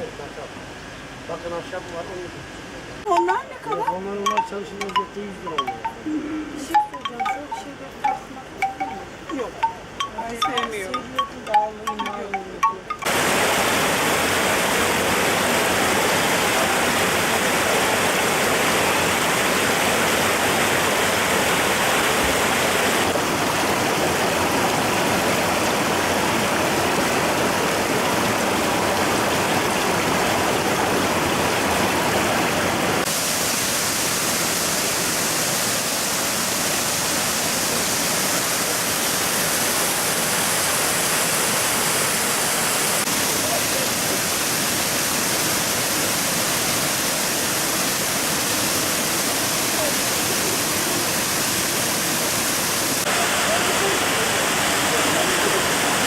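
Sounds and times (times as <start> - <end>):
waterfall hissing: 3.7 - 56.0.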